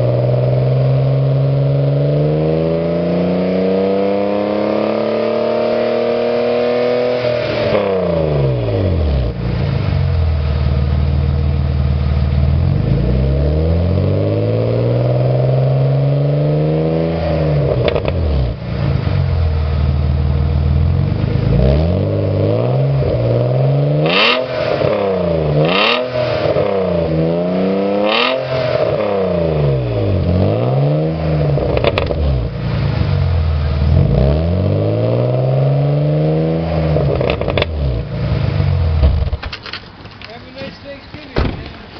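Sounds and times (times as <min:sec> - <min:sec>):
car exhaust revving: 0:00.0 - 0:39.7
exhaust cracks: 0:06.6 - 0:41.9.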